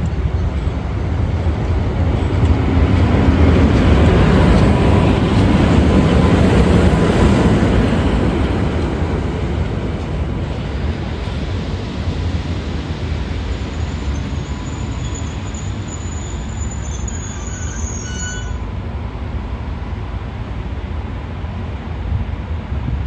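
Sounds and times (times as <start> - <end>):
train wheels squealing: 0.0 - 18.9
low rumble of locomotive: 0.0 - 23.0.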